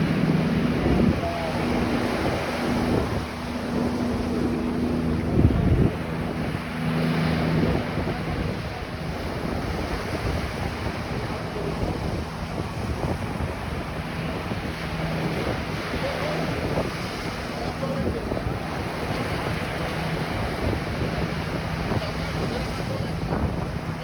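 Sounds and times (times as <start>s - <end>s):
low steady hum: 0.0s - 22.8s
ocean surf washing on beach: 0.0s - 24.0s
wind buffeting microphone: 0.0s - 24.0s.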